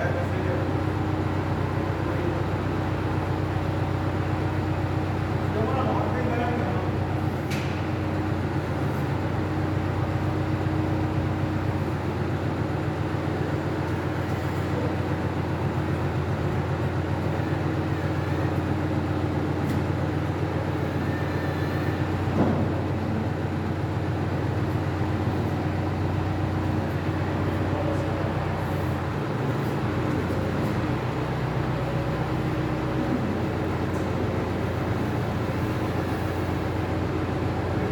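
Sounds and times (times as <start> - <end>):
vehicle engine idling: 0.0 - 37.9.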